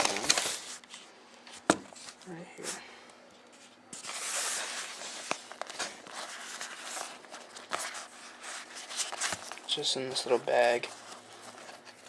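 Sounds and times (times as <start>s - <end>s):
packaging rustling and crinkling: 0.0s - 2.2s, 4.0s - 12.0s.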